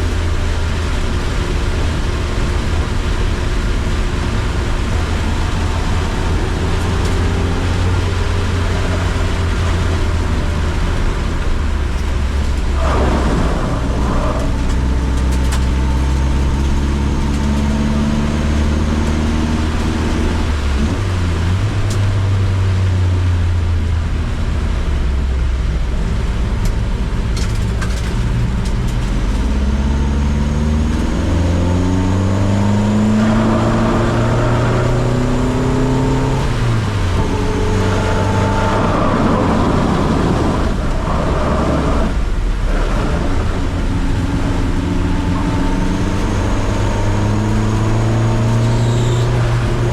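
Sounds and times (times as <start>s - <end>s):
car engine accelerating: 0.0s - 49.9s.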